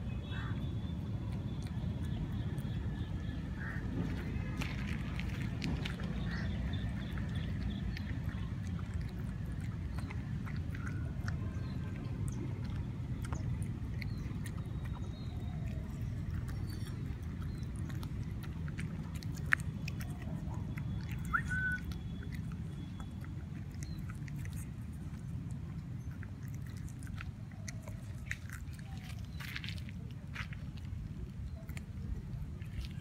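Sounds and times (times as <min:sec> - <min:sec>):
low background rumble: 0:00.0 - 0:33.0
puppy chewing wet food: 0:00.4 - 0:33.0.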